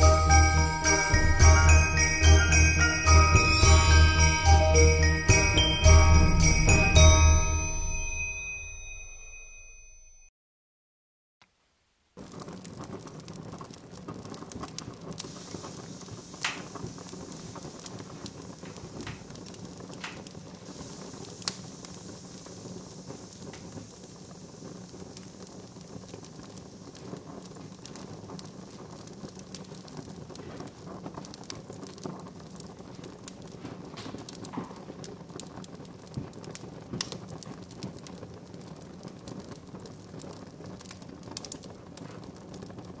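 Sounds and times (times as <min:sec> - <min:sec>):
fire crackling in stove: 0:00.0 - 0:09.1, 0:12.2 - 0:43.0.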